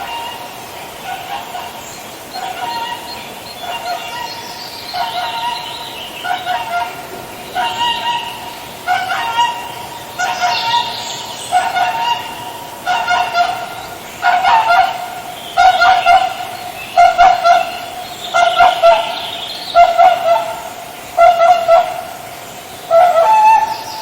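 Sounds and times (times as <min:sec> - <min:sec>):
swan honking: 0:00.0 - 0:22.2, 0:22.9 - 0:24.0.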